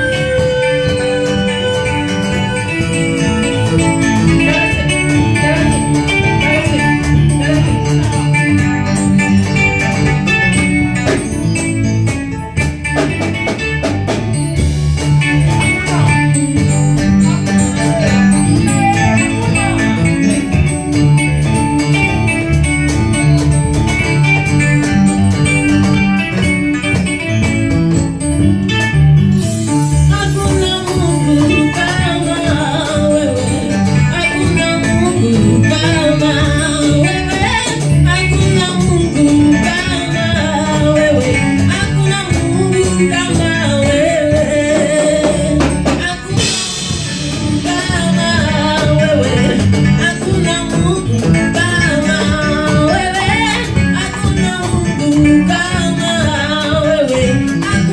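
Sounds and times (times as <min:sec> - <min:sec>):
bass: 0:00.0 - 0:57.9
electronic keyboard: 0:00.0 - 0:57.9
guitar: 0:00.0 - 0:57.9
steady drum beat: 0:00.0 - 0:57.9.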